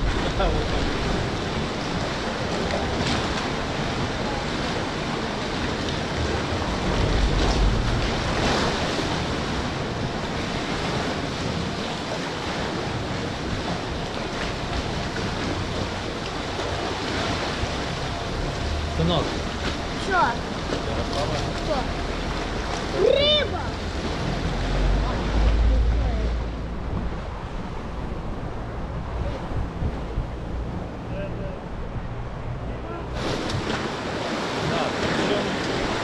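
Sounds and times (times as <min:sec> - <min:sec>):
wind on microphone: 0:00.0 - 0:18.8, 0:19.4 - 0:36.0
sea water rushing around boat: 0:00.0 - 0:36.0.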